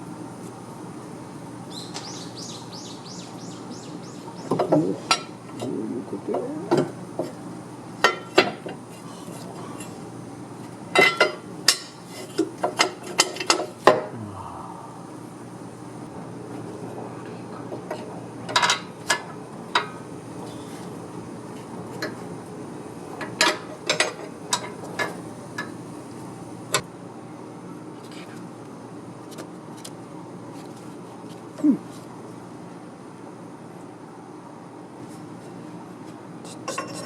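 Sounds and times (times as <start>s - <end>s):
low background noise: 0.0s - 36.4s.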